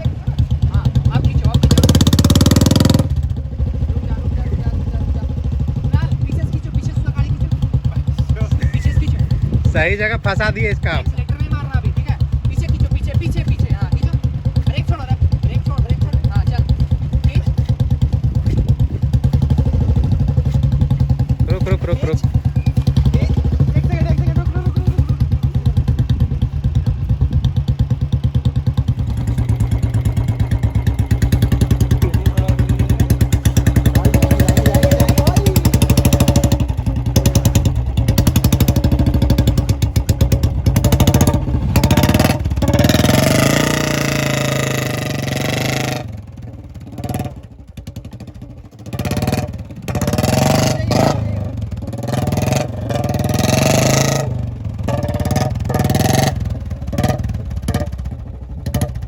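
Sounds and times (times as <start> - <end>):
motorcycle engine thumping: 0.0 - 59.0.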